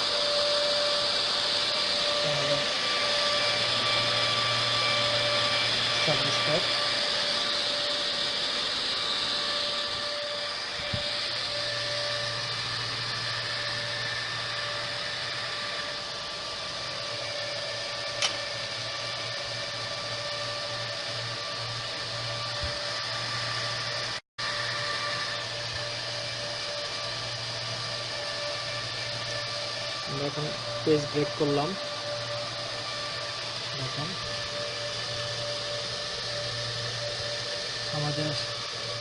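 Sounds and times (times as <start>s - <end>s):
server cooling fans whirring: 0.0s - 39.0s.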